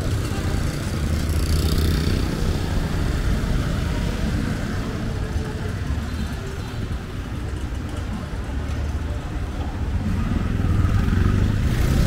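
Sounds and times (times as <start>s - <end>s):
passing traffic rumble: 0.0s - 12.0s.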